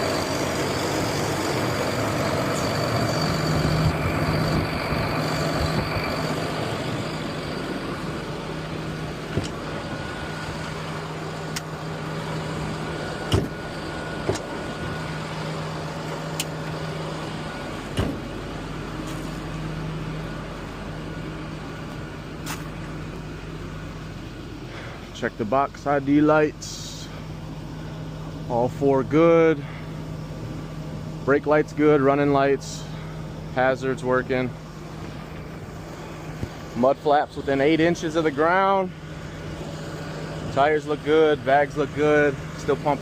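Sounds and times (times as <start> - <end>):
truck engine idling: 0.0 - 43.0.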